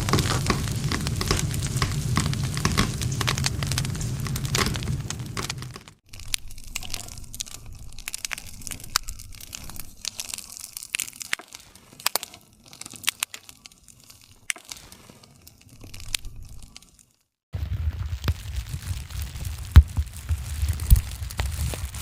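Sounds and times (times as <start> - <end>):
campfire crackling and snapping: 0.0 - 22.0.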